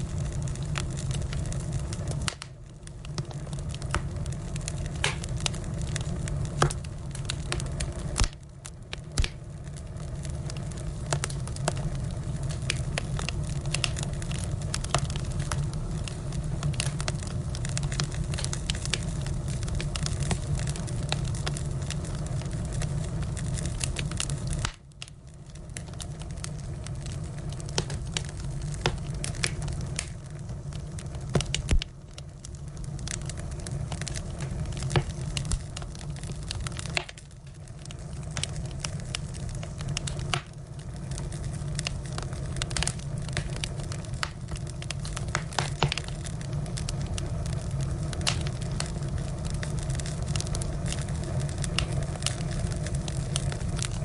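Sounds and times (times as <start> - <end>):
firewood crackling and popping: 0.0 - 54.0.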